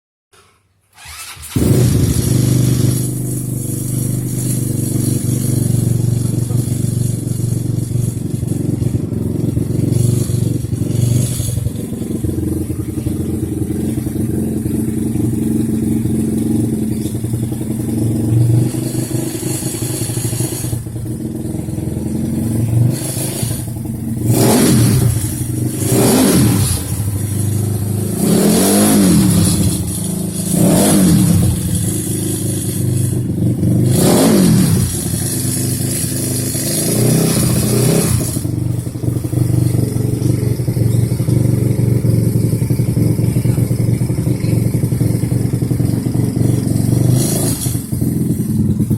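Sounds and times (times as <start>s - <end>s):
scooter engine idling and revving: 0.4s - 48.9s.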